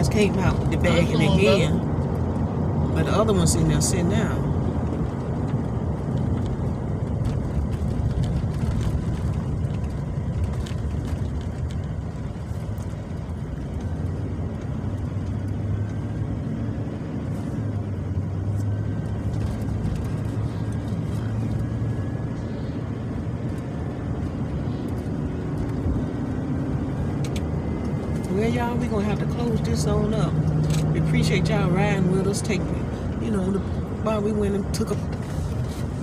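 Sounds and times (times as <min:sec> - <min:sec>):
vehicle engine and road rumble: 0:00.0 - 0:36.0.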